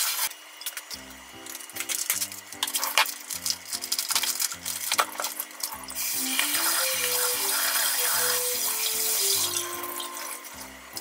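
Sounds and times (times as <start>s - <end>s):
tap running water into sink: 1.8s - 11.0s.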